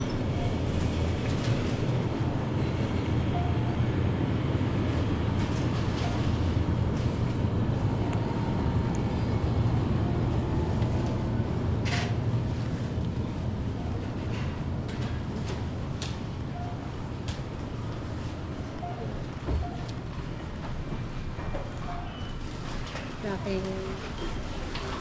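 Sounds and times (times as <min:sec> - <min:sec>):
moving vehicle rumble: 0:00.0 - 0:25.0.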